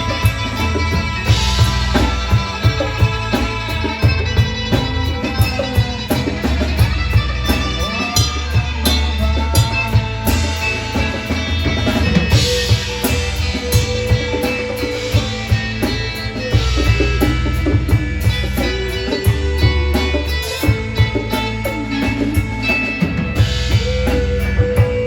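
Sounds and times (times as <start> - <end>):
drum kit steady beat: 0.0 - 25.0
electric guitar lines: 0.0 - 25.0.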